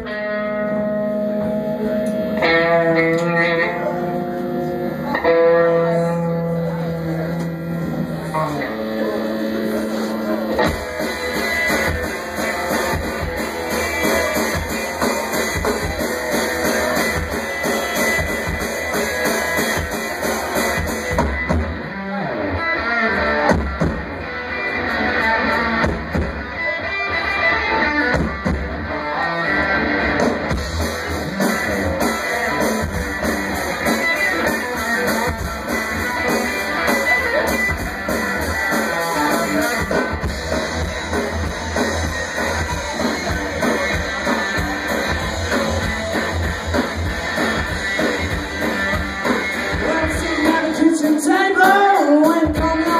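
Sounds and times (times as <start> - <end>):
electric guitar: 0.0 - 52.9
drum kit: 0.9 - 22.0, 22.8 - 52.9.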